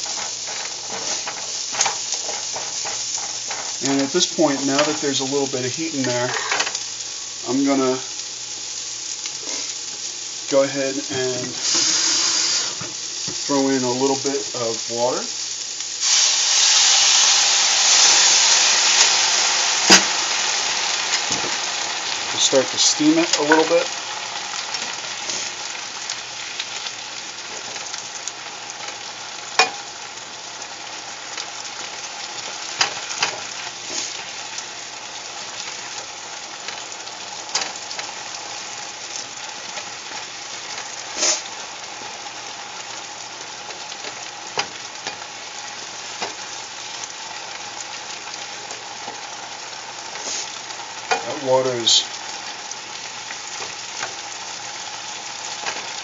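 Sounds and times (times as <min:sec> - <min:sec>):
asparagus sizzling in oil: 0:00.0 - 0:56.0.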